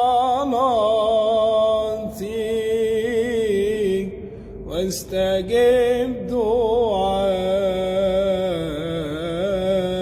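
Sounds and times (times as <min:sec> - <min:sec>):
person singing a hymn: 0:00.0 - 0:10.0
steady low drone tone: 0:00.0 - 0:10.0.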